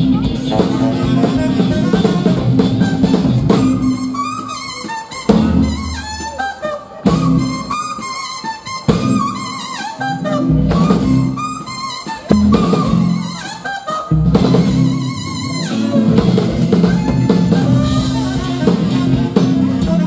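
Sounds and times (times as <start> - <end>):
live band with drum kit: 0.0 - 20.0
saxophone solo: 0.0 - 20.0.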